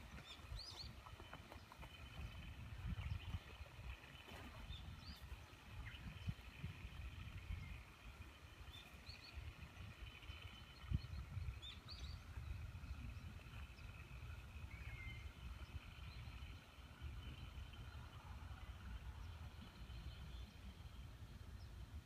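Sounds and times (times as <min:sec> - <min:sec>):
faint bird chirps: 0:00.0 - 0:21.8
low rumble on microphone: 0:00.0 - 0:22.0.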